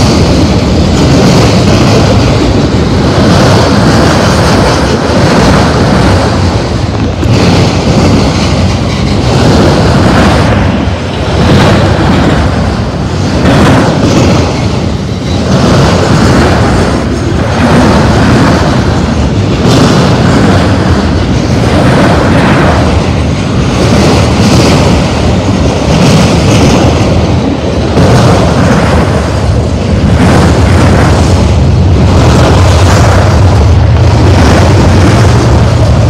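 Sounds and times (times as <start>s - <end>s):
freight car wheels rumbling on rail: 0.0s - 36.0s.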